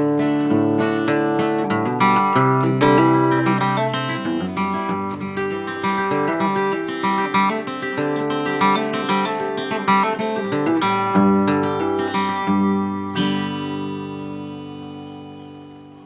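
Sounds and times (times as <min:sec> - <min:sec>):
acoustic guitar plucking: 0:00.0 - 0:16.0.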